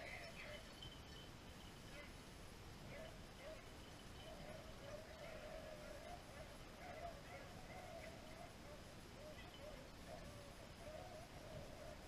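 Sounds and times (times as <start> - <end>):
distant hounds baying: 0.0 - 1.0, 1.8 - 2.2, 2.8 - 12.0.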